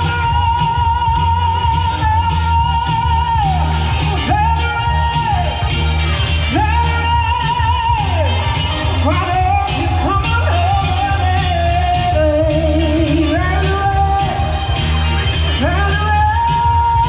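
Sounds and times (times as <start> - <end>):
pop backing track with bass: 0.0 - 17.0.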